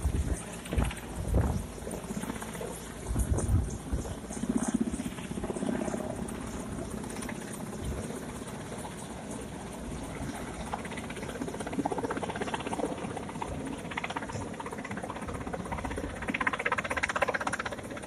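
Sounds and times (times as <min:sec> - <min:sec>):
helicopter rotors chopping: 0:00.0 - 0:18.0.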